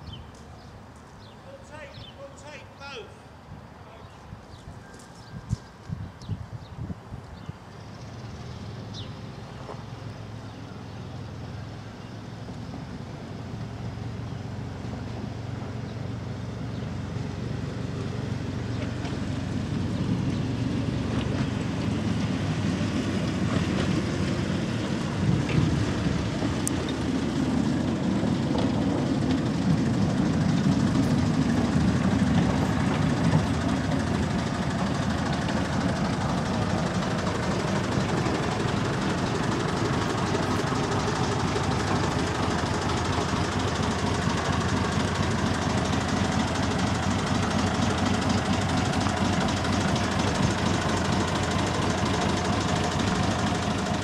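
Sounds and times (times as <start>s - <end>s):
diesel locomotive engine running: 6.8s - 54.0s.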